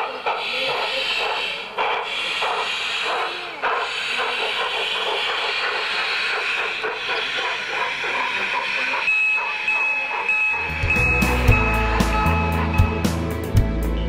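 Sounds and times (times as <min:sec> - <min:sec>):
model steam locomotive hissing: 0:00.0 - 0:13.6.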